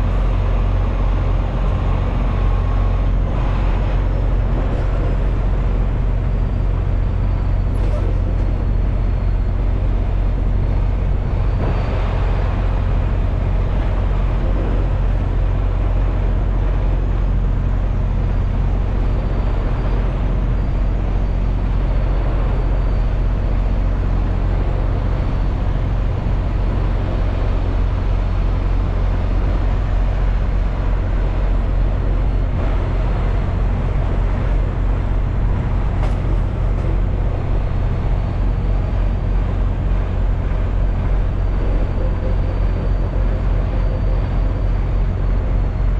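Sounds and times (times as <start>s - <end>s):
road and tyre noise: 0.0s - 45.9s
truck engine hum: 0.0s - 45.9s.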